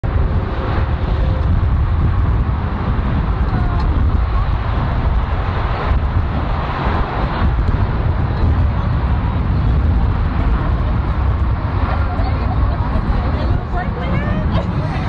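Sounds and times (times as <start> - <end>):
highway traffic rumble: 0.0 - 15.0
wind buffeting microphone: 0.0 - 15.0.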